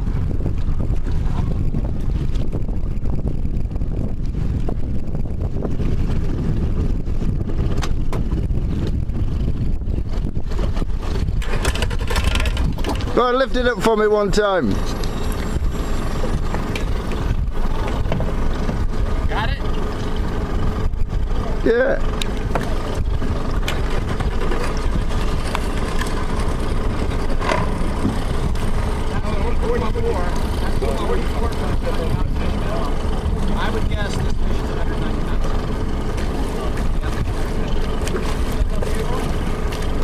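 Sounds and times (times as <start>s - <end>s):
boat engine idling: 0.0s - 40.0s
wind buffeting microphone: 0.0s - 40.0s.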